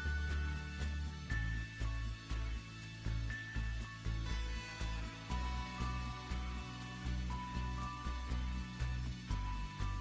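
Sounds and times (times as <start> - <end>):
deep pulsing bass: 0.0 - 10.0.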